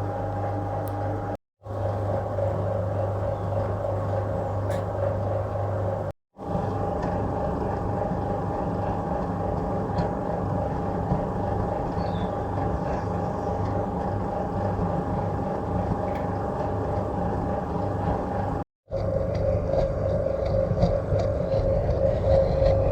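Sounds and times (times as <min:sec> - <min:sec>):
washing machine running with whine: 0:00.0 - 0:22.9.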